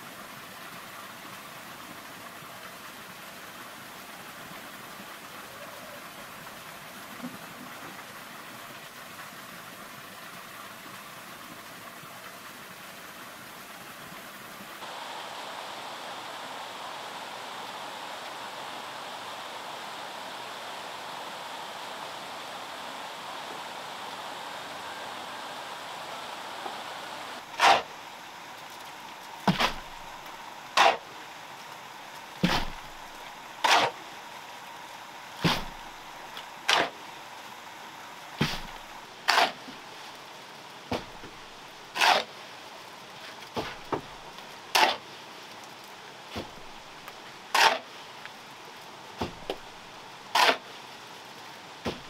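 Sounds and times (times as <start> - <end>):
steady background hiss: 0.0 - 52.0.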